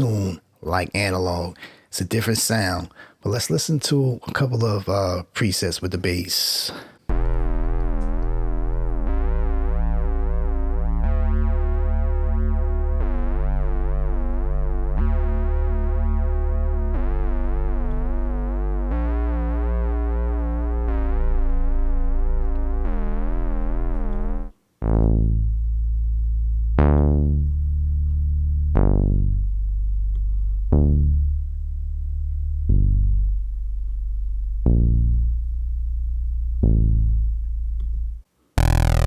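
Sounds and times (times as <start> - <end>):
plucked synthesizer notes: 7.1 - 39.0
sustained synthesizer chords: 7.1 - 39.0.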